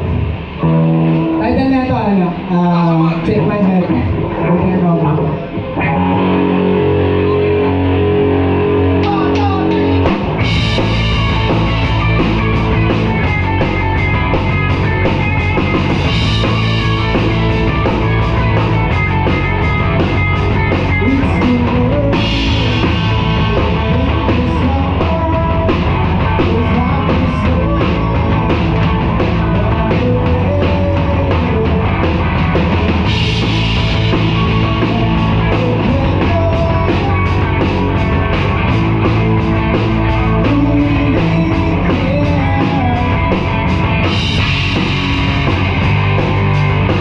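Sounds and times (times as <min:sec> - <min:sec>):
drums: 0:00.0 - 0:47.0
electric guitar: 0:00.0 - 0:47.0
live rock band playing: 0:00.0 - 0:47.0.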